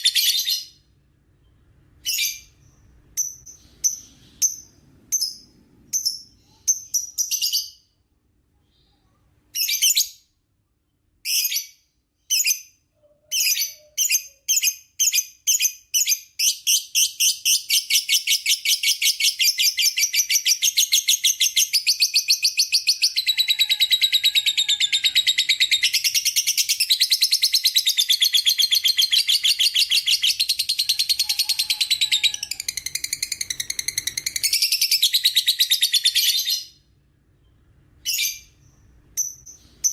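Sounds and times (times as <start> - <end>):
lovebird chirping and chattering: 0.0 - 0.8, 1.4 - 7.9, 8.7 - 10.3, 11.2 - 36.8, 37.4 - 39.9.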